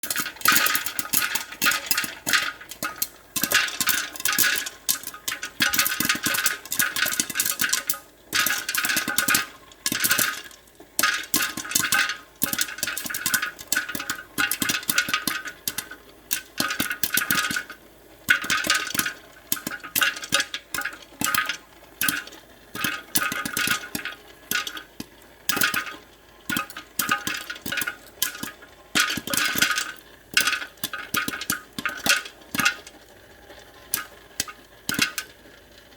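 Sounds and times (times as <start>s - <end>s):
popcorn popping: 0.0s - 35.9s.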